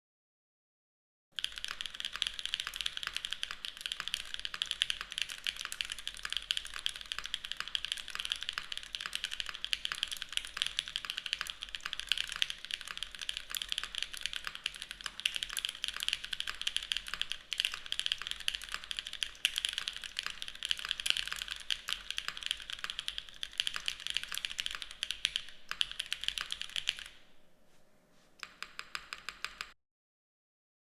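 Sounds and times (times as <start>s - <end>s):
fast mechanical keyboard typing: 1.4s - 27.3s, 28.4s - 29.8s.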